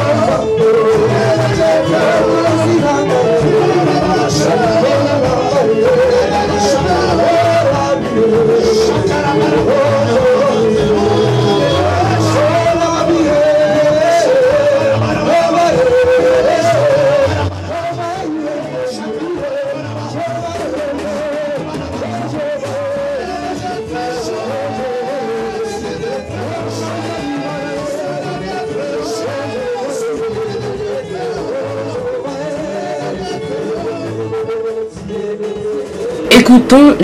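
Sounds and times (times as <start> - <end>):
acoustic guitar: 0.0 - 37.0
men singing: 0.0 - 37.0.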